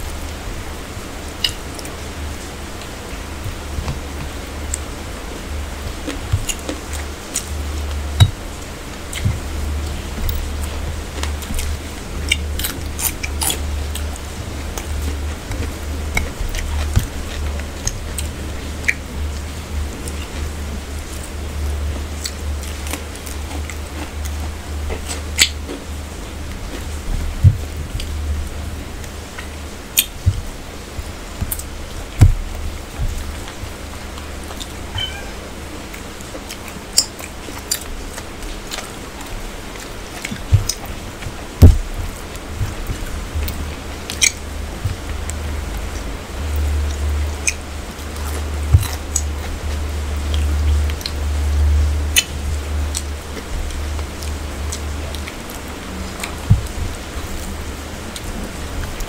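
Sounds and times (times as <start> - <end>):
steady low hum: 0.0 - 59.0
steady low rumble: 0.0 - 59.0
chewing: 1.3 - 59.0.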